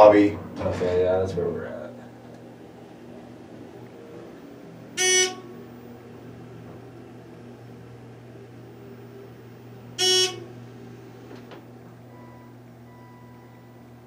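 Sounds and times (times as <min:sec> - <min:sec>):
steady low hum: 0:00.0 - 0:14.0
elevator electronic beeps: 0:02.1 - 0:14.0.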